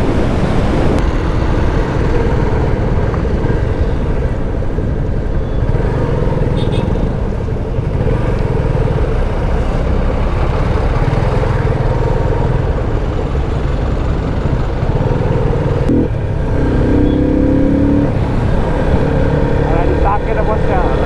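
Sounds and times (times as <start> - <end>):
road and wind noise: 0.0 - 21.0
motorcycle engine running: 1.3 - 21.0.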